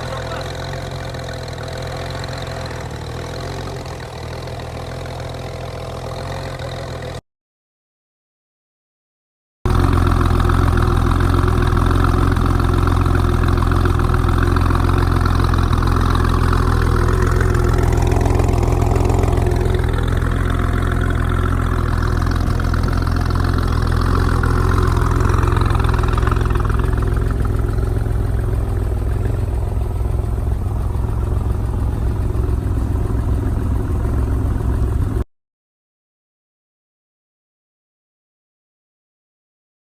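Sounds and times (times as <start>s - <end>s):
car engine idling: 0.0s - 7.2s, 9.7s - 35.3s.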